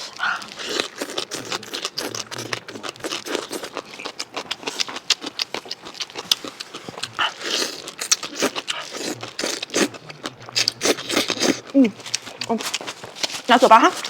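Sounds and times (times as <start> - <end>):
mouth clicks and smacks chewing: 0.0 - 14.0.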